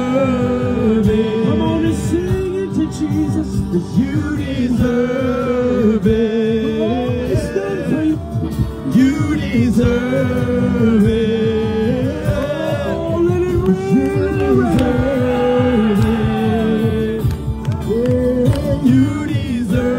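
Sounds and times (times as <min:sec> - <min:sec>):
gospel singing: 0:00.0 - 0:19.9
musical accompaniment: 0:00.0 - 0:19.9.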